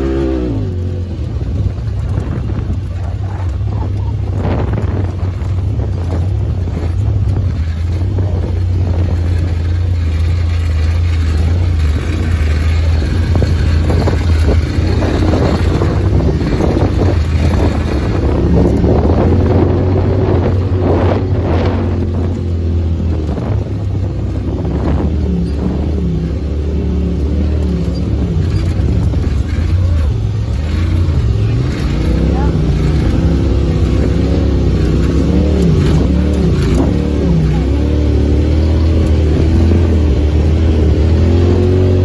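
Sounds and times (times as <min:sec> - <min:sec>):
knocks and rattles: 0:00.0 - 0:42.0
vehicle engine running: 0:00.0 - 0:42.0
wind on microphone: 0:00.0 - 0:42.0.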